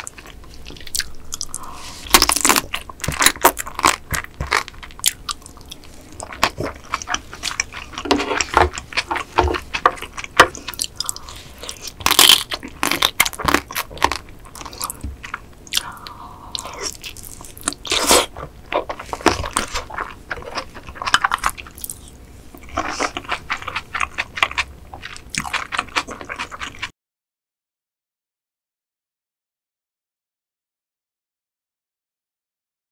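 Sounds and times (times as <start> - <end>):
wet chewing and smacking: 0.0 - 26.9.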